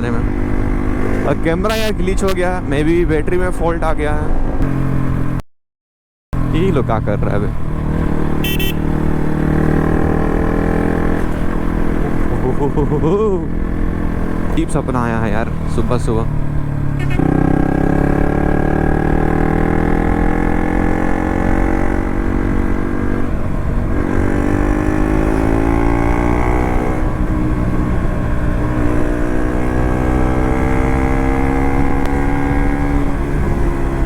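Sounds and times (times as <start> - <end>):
motorcycle engine accelerating: 0.0 - 3.0, 6.4 - 34.0.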